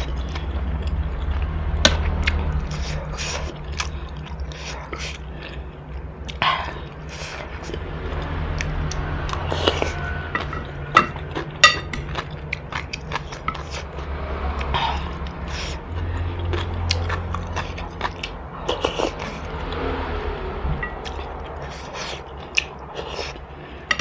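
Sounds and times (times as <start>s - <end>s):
chewing noodle soup: 0.0s - 24.0s.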